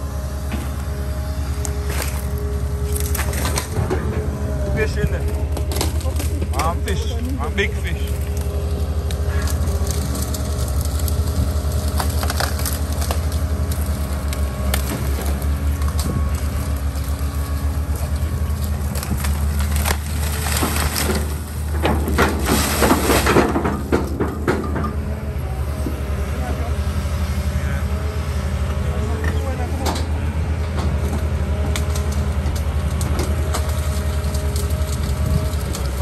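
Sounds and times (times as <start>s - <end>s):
debris cracking and crunching: 0.0s - 25.2s, 28.7s - 36.0s
demolition machine engine running: 0.0s - 36.0s.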